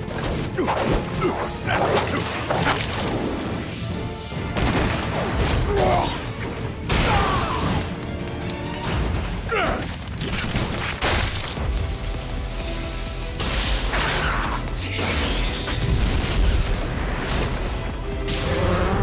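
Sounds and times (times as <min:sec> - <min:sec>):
dramatic score music: 0:00.0 - 0:19.0.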